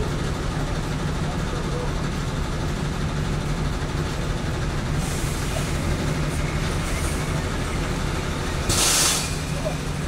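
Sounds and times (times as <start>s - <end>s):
truck engine low rumble: 0.0s - 10.0s.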